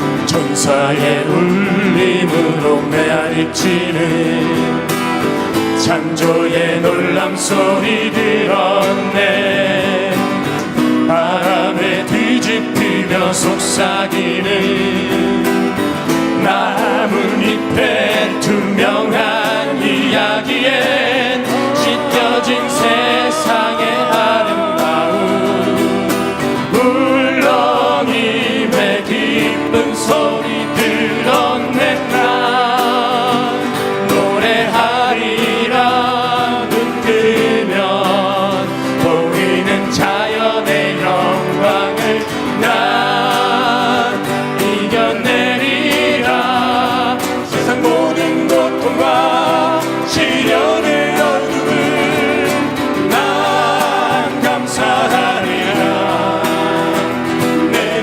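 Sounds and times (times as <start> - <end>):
instrumental accompaniment: 0.0 - 58.0
male choir singing in harmony: 0.0 - 58.0.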